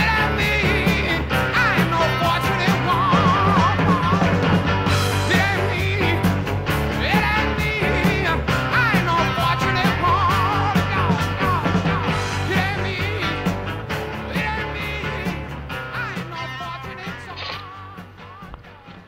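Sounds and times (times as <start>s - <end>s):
rock music: 0.0s - 19.0s.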